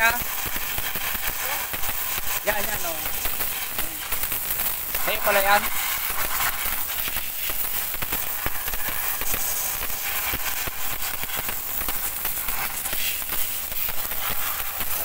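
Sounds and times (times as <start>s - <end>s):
pressure washer spraying: 0.0s - 15.0s.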